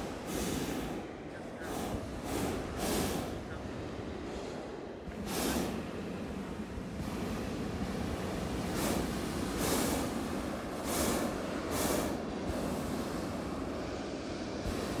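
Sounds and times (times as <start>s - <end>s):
propane burner roaring blasts: 0.0s - 15.0s.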